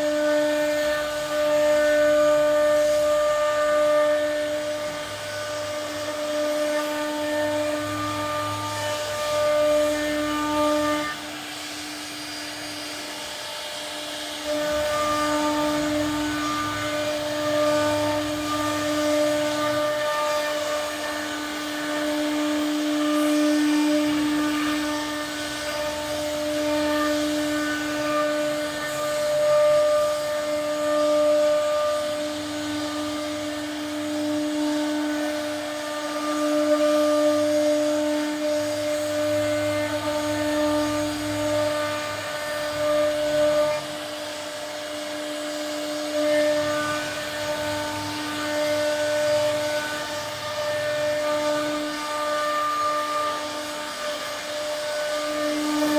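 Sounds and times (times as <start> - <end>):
router spindle whining: 0.0 - 55.9.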